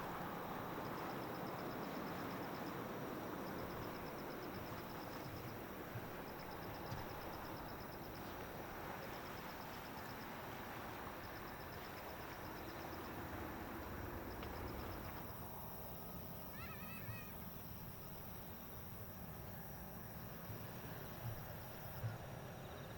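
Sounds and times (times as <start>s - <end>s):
insects chirping in trills: 0.0s - 22.9s.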